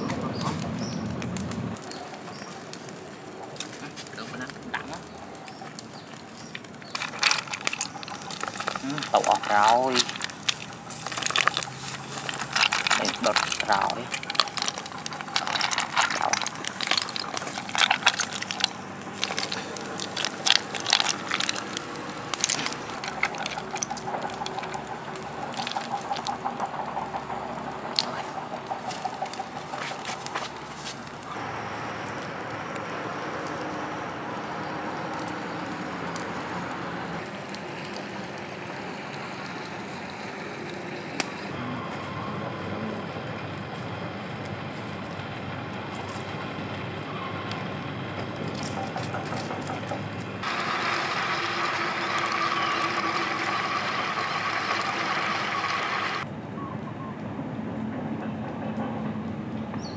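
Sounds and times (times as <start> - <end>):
campfire crackling and popping: 0.0 - 58.5.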